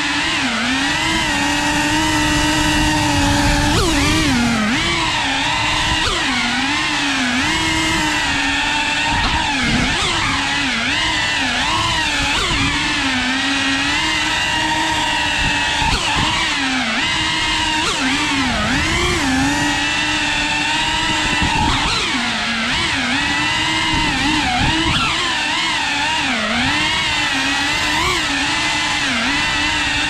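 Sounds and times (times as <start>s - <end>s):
quadcopter motors whining: 0.0s - 30.0s.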